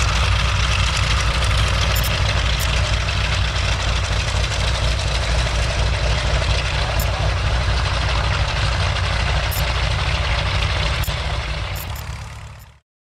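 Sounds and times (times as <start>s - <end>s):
propeller airliner engines droning: 0.0s - 12.8s.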